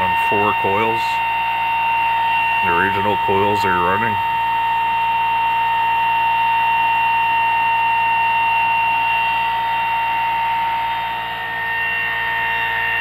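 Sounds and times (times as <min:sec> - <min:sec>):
low hum: 0:00.0 - 0:13.0
motor high-pitched whine: 0:00.0 - 0:13.0.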